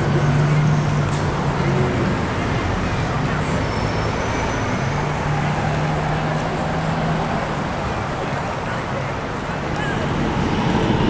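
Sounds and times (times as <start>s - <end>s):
bus engine drone: 0.0s - 11.0s
street traffic: 0.0s - 11.0s.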